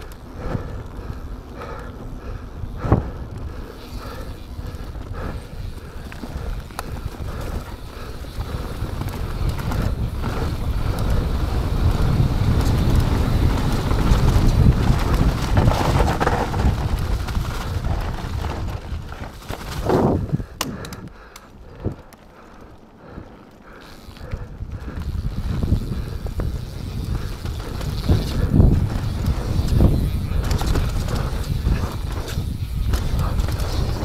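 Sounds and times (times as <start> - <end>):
bike rolling on dirt trail: 0.0 - 34.0
wind buffeting microphone: 0.0 - 34.0.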